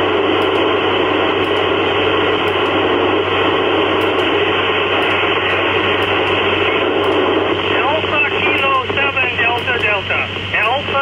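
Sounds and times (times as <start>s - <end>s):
radio static: 0.0s - 11.0s.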